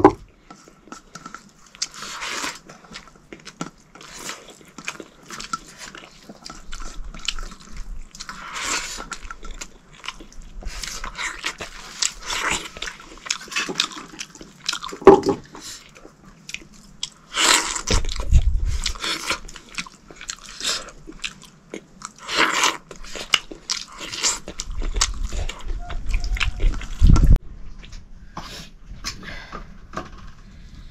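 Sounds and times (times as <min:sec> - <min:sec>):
chewing and crunching food: 0:00.0 - 0:28.1.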